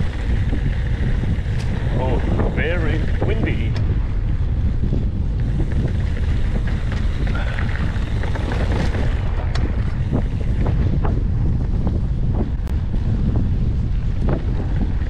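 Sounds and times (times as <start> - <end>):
bike knocking and rattling: 0.0 - 15.0
wind buffeting microphone: 0.0 - 15.0.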